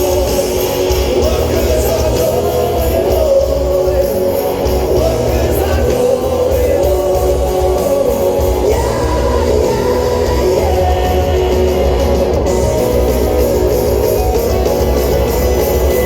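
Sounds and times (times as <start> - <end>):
person singing: 0.0 - 13.0
distorted guitars: 0.0 - 16.0
driving drum beat: 0.0 - 16.0
live rock band playing: 0.0 - 16.0.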